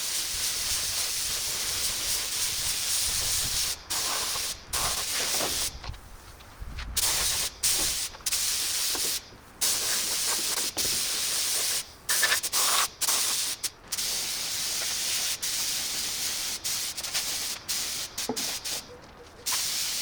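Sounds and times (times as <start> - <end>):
paint spraying hiss: 0.0 - 5.8, 7.0 - 20.0.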